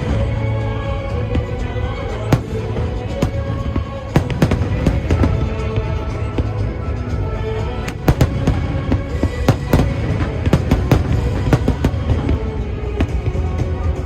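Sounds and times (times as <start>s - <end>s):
music playing: 0.0s - 14.0s
fireworks bangs and crackles: 1.1s - 14.0s.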